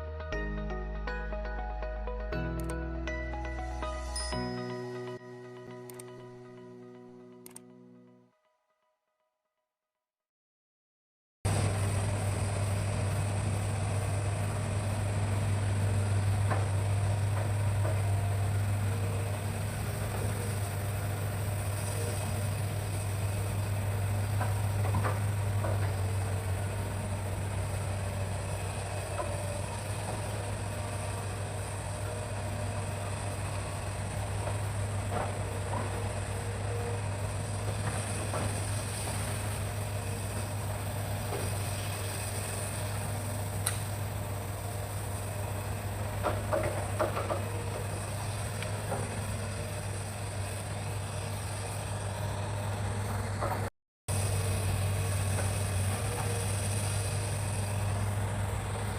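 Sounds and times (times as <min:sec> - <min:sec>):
excavator diesel engine running: 0:00.0 - 0:07.9, 0:11.5 - 0:58.9.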